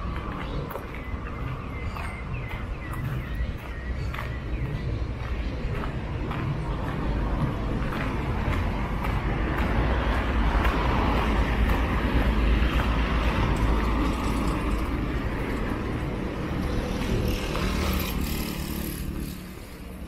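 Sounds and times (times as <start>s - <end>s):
cars passing with tyre noise: 0.0s - 20.0s.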